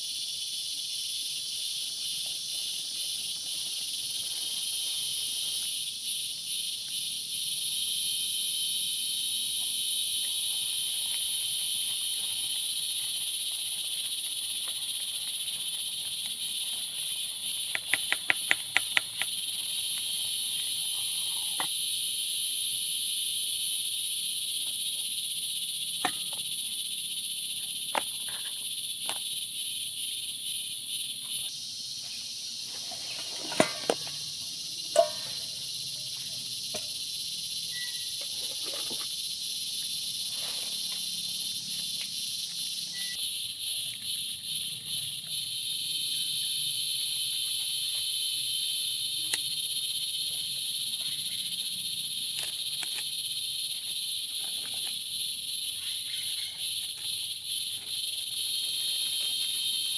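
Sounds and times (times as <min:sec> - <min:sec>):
chorus of forest insects: 0:00.0 - 0:59.9.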